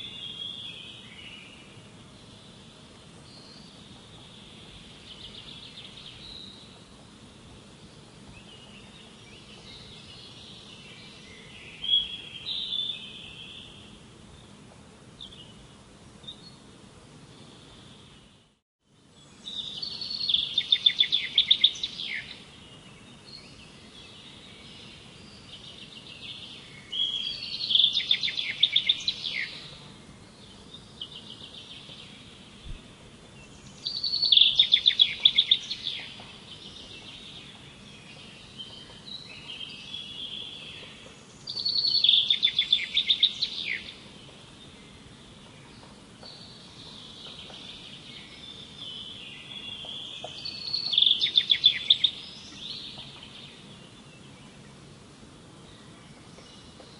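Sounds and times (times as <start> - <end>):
faint steady background hiss: 0.0 - 56.9
songbirds trilling and chattering: 0.0 - 56.9.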